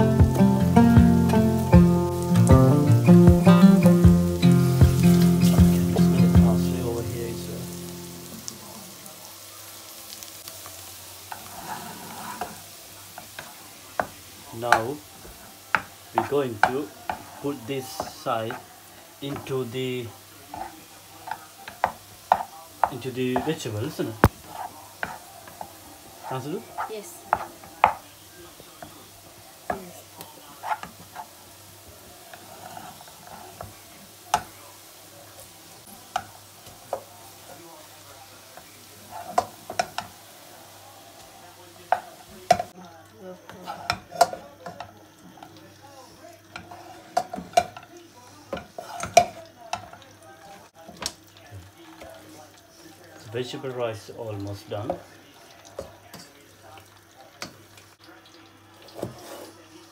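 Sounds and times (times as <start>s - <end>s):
vegetables and egg sizzling: 0.0s - 59.9s.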